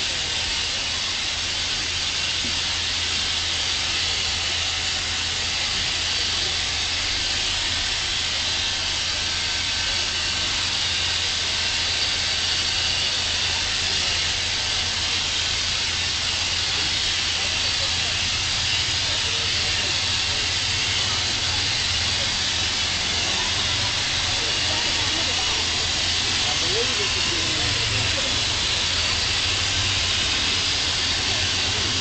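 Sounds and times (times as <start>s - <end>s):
steam locomotive hissing: 0.0s - 32.0s.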